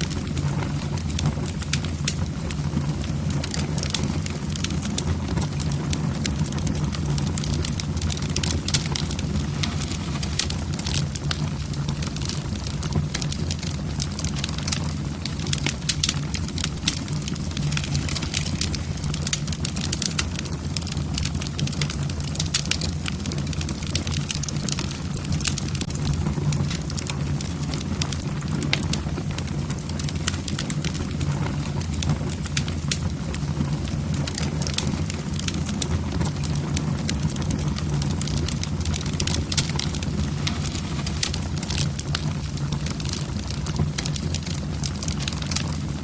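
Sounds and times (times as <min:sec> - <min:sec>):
logs crackling and popping: 0:00.0 - 0:46.0
low noise of flames: 0:00.0 - 0:46.0.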